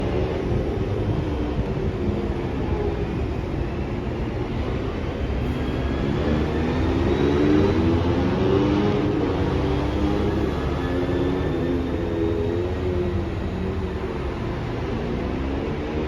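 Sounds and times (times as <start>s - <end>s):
metro train running rumble: 0.0s - 16.0s.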